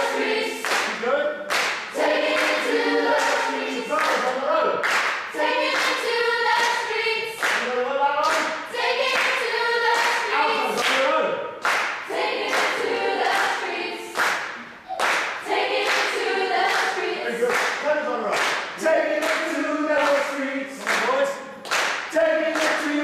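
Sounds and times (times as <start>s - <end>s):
mixed choir singing a cappella: 0.0s - 1.0s, 1.8s - 4.5s, 5.1s - 11.4s, 12.0s - 17.6s, 18.7s - 21.5s, 22.1s - 23.0s.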